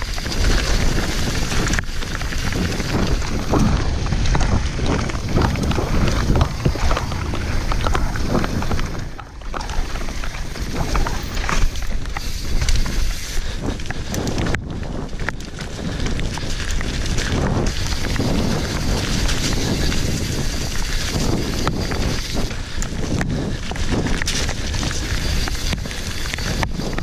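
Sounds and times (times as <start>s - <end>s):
bike tyres clattering on stones: 0.0s - 27.0s
wind buffeting microphone: 0.0s - 27.0s.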